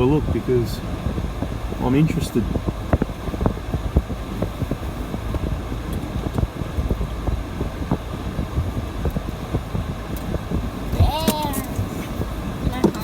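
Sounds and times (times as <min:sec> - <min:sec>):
short low thumps: 0:00.0 - 0:13.0
vehicle rumbling on sand: 0:00.0 - 0:13.0
wind buffeting microphone: 0:00.0 - 0:13.0.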